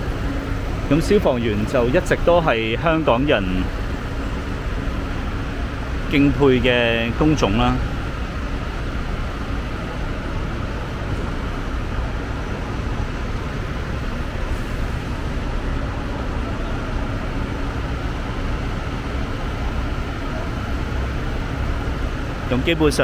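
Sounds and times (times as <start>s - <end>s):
faint steady hum: 0.0s - 23.0s
road traffic rumble: 0.0s - 23.0s.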